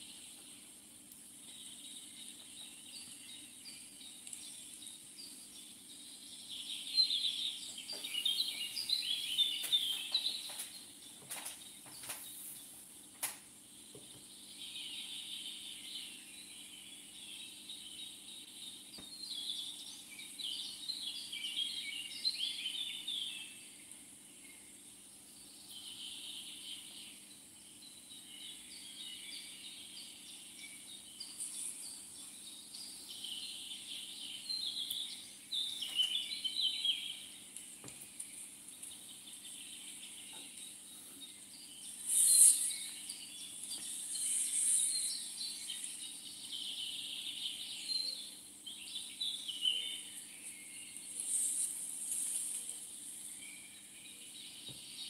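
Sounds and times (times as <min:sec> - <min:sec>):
birds chirping: 0:00.0 - 0:55.0
steady high hiss: 0:00.0 - 0:55.0.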